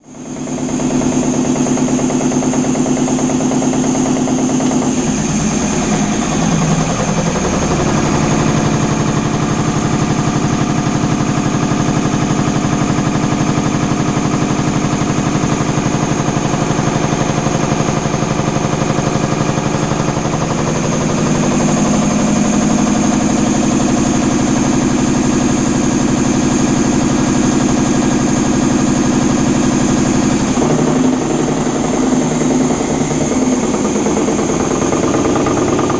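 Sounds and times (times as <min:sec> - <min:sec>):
air compressor running: 0:00.0 - 0:35.9.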